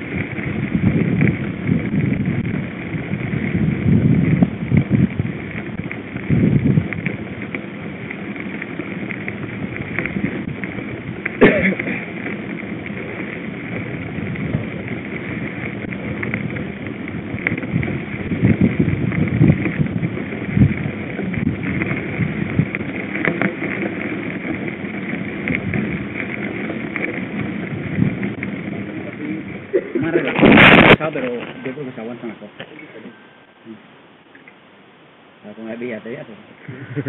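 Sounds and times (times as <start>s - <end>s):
bike rattling: 0.0s - 33.2s
tyre and wind noise: 0.0s - 37.0s.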